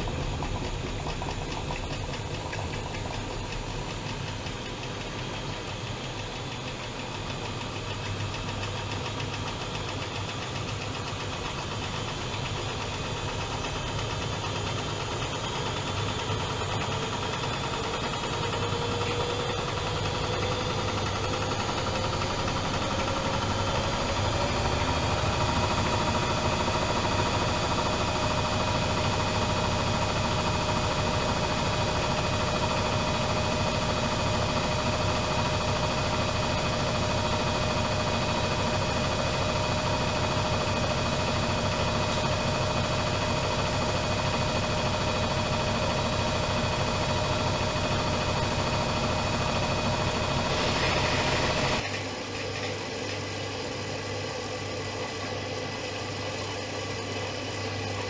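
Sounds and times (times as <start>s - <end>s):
washing machine motor whine: 0.0s - 58.0s.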